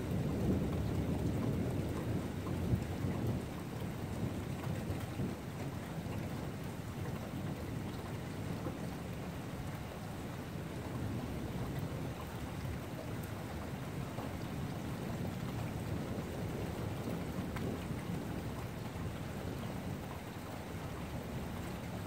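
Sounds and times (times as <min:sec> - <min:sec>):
low continuous thunder rumble: 0:00.0 - 0:22.0
steady rain hiss: 0:00.0 - 0:22.0
rain drop ticks: 0:00.1 - 0:09.8, 0:10.5 - 0:22.0.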